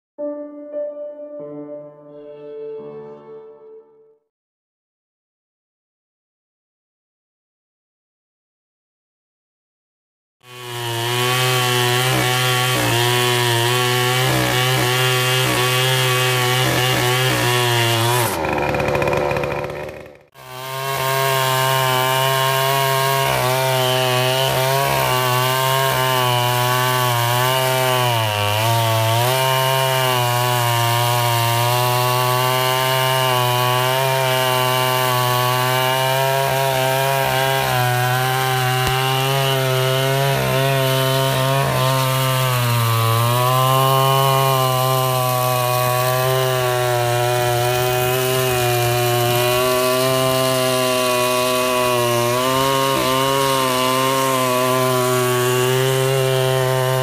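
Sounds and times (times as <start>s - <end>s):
chainsaw cutting a log: 10.4s - 57.0s.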